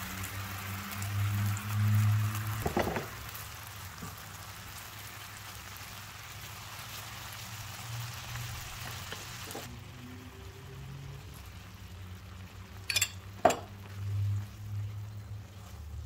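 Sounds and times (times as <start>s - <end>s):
berries sizzling in butter: 0.0s - 16.0s.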